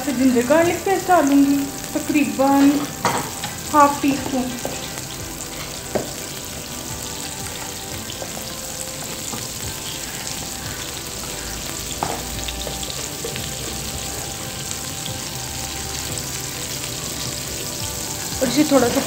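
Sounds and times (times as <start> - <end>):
butter and oil sizzling in a pan: 0.0 - 19.0.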